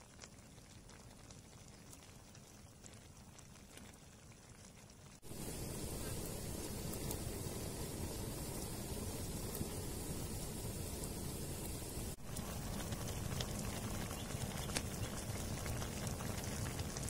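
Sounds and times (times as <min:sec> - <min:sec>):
crackling pops: 0:00.0 - 0:17.0
curry sizzling over wood fire: 0:00.0 - 0:17.0.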